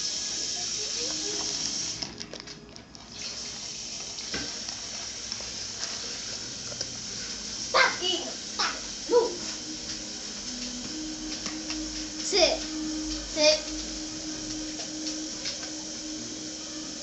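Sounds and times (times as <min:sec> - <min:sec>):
sink tap running: 0:00.0 - 0:17.0.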